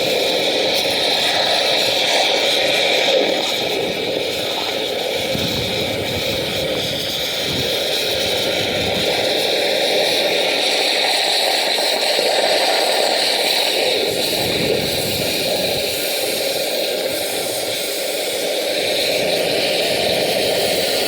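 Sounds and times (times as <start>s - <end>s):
oxygen lance hissing: 0.0s - 21.0s.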